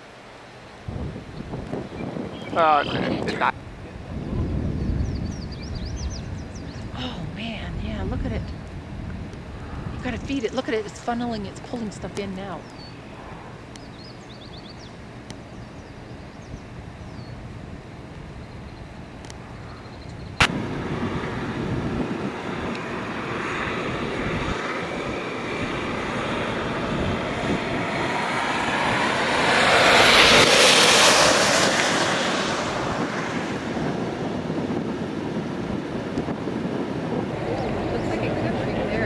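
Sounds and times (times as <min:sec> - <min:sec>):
wind on microphone: 0:00.8 - 0:14.9, 0:15.5 - 0:39.0.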